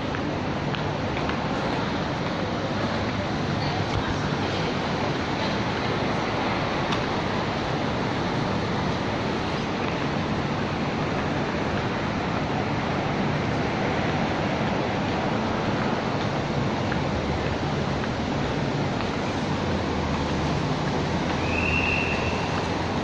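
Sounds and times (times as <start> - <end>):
city street ambience: 0.0 - 23.0.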